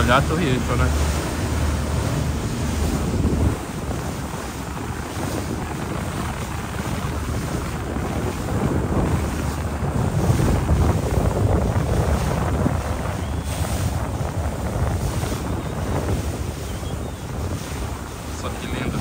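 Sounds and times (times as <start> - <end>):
water noise: 0.0 - 19.0
wind buffeting microphone: 0.0 - 19.0.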